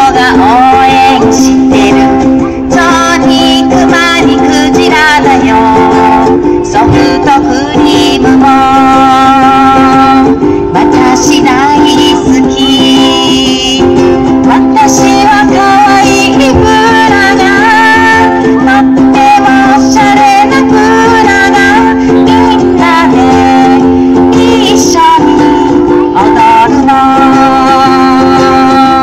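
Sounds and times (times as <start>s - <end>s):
plucked strings and chords: 0.0s - 29.0s
woman singing with vibrato: 0.0s - 29.0s.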